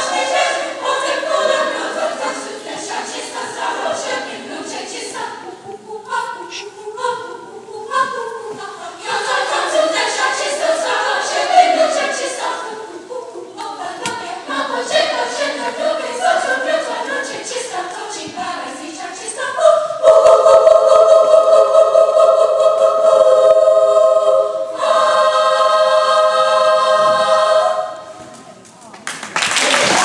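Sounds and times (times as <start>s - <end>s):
girls' choir singing: 0.0s - 28.4s, 29.6s - 30.0s.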